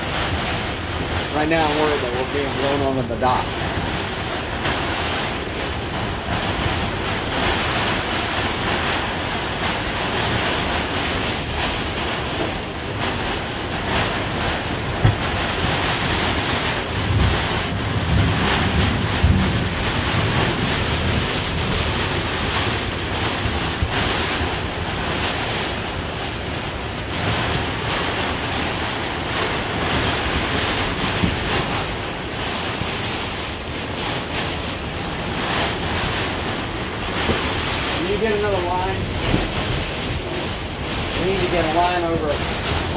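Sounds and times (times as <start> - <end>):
heavy rain on vinyl: 0.0 - 42.9
strong wind: 0.0 - 42.9.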